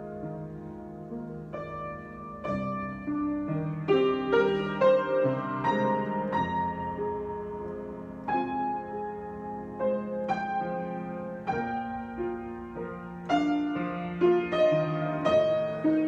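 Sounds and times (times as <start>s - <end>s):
solo piano improvisation: 0.0s - 16.0s.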